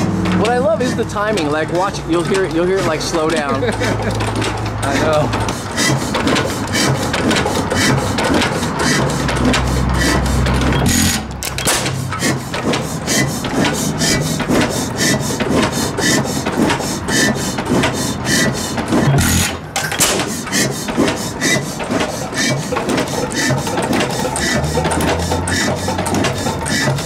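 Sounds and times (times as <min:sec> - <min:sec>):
gas engine clicking rhythmically: 0:00.0 - 0:27.0.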